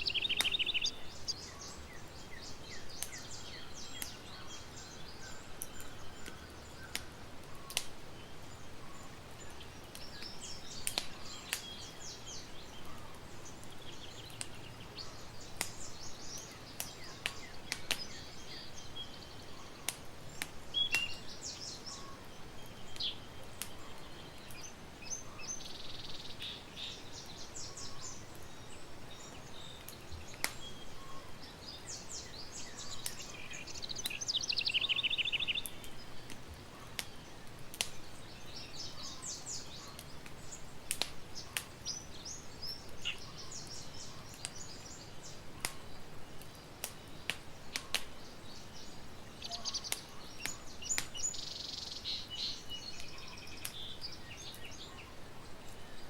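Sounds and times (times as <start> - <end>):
birds chirping and singing: 0.0 - 56.0
campfire pops and crackles: 0.0 - 56.0
soft steady hiss: 0.0 - 56.0.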